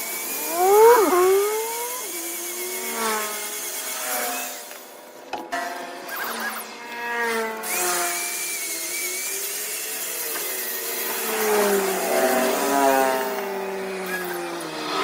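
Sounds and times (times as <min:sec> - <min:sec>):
power tool cutting wood: 0:00.0 - 0:04.9, 0:07.4 - 0:15.0.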